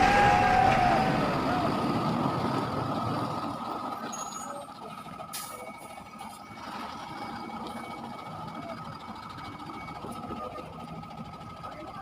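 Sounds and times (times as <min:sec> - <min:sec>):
truck rumbling: 0:00.0 - 0:12.0.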